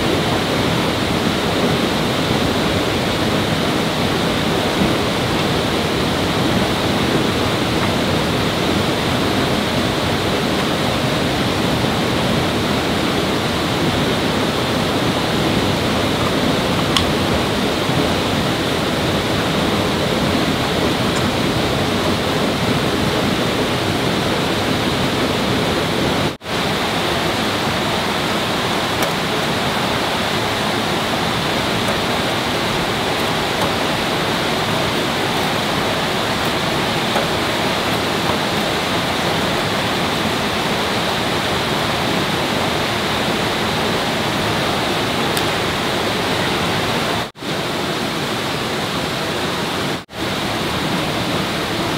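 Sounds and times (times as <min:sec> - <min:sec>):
flowing water roar: 0:00.0 - 0:51.9.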